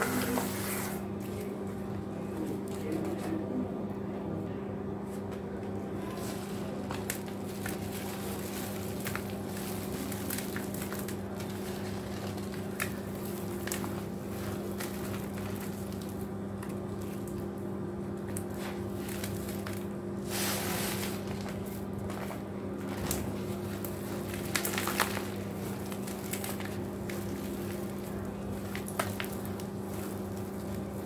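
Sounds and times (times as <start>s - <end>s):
steady low hum: 0.0s - 31.0s
cement grains crackling: 6.0s - 31.0s.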